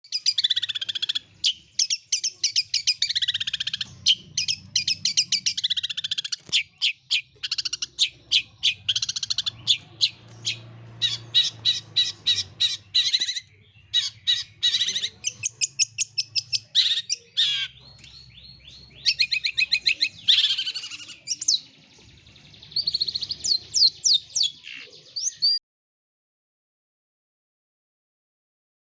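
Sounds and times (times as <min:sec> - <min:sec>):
shrike singing rapid chirps: 0:00.0 - 0:25.6.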